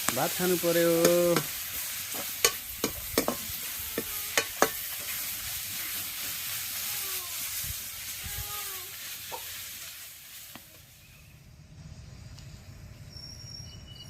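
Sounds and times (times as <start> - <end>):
vegetables sizzling in a pan: 0.0 - 11.4.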